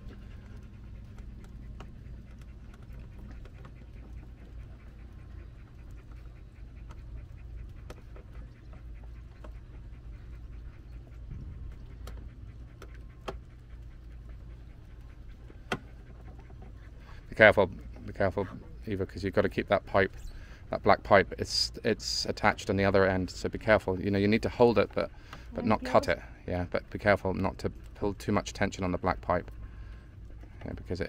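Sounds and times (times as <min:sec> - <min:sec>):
dog panting: 0:00.0 - 0:31.0
low steady hum: 0:00.0 - 0:31.0.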